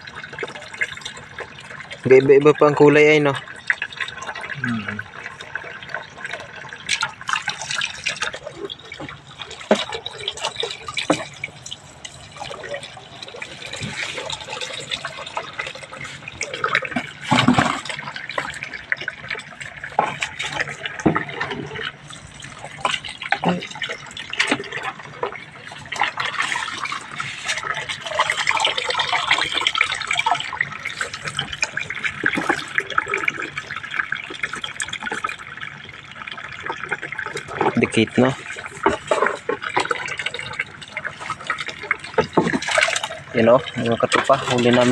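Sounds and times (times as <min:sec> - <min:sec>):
water pouring into a tub: 0:00.0 - 0:44.9
water splashing and dripping: 0:00.0 - 0:44.9.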